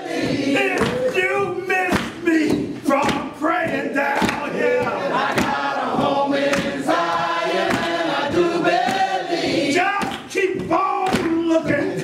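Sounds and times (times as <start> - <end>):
congregation singing gospel song: 0.0 - 12.0
hand claps: 0.1 - 12.0.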